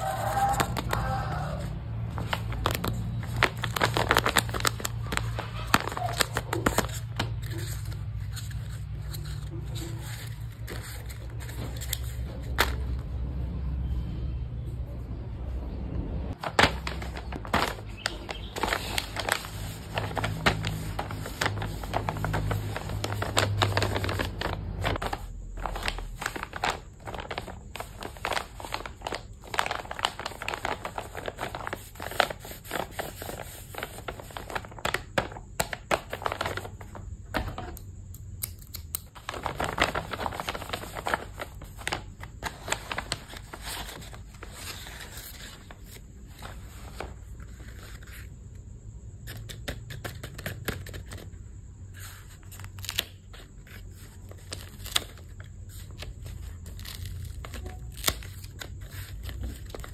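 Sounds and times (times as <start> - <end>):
paper and plastic crinkling: 0.0 - 13.0, 16.3 - 37.8, 38.7 - 48.3, 52.0 - 59.9.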